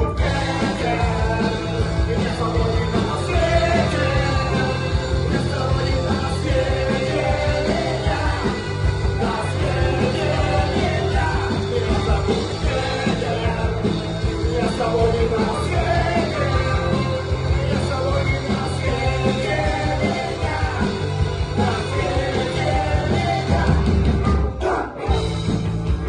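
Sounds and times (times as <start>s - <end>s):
person singing: 0.0s - 25.4s
rock band playing: 0.0s - 26.0s.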